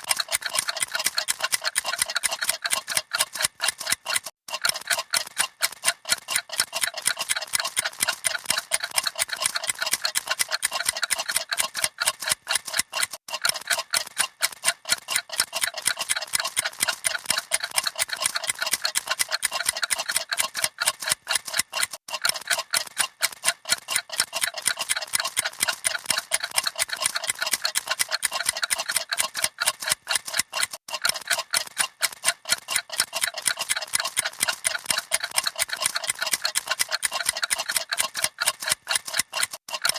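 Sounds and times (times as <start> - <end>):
clocks ticking: 0.0 - 39.9.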